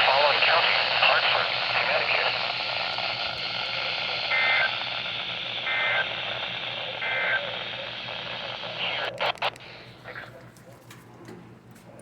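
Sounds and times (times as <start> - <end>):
radio hiss: 0.0 - 10.8.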